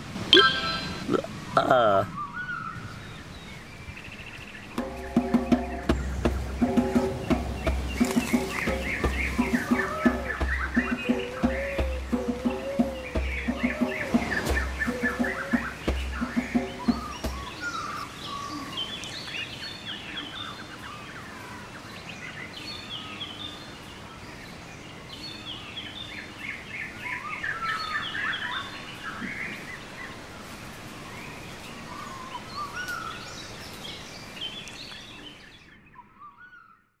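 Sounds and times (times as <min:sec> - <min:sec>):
steady outdoor hiss: 0:00.0 - 0:36.8
birds chirping and trilling: 0:00.0 - 0:37.0.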